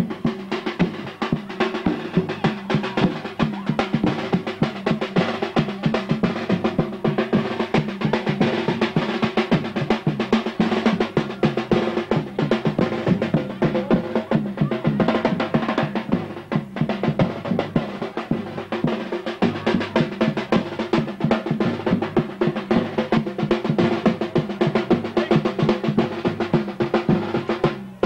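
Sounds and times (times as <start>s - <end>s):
drummers beating fast rhythm: 0.0s - 28.0s.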